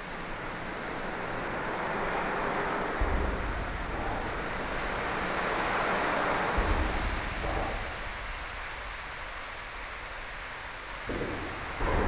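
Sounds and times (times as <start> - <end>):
floodwater rushing: 0.0 - 12.0
wind buffeting microphone: 0.6 - 12.0.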